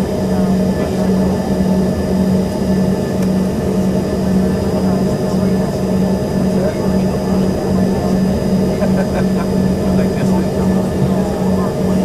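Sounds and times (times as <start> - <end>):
jet cabin engine drone: 0.0 - 12.0.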